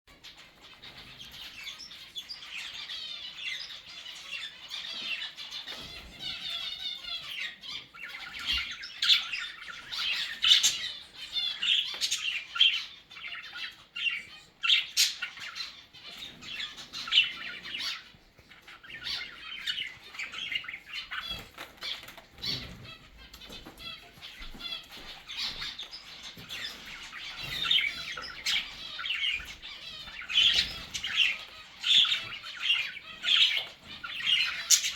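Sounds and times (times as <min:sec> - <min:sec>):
birds chirping and squawking: 0:00.1 - 0:34.9.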